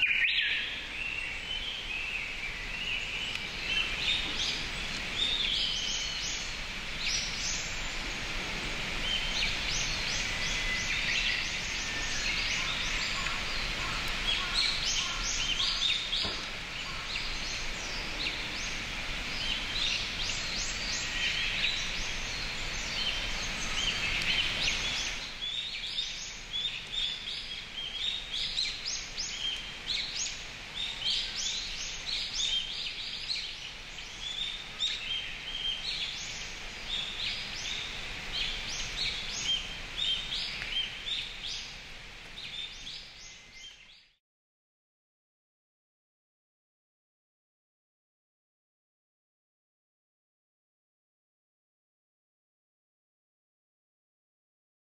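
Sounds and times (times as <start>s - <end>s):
birds chirping and singing: 0.0s - 44.1s
background hiss: 0.1s - 44.1s.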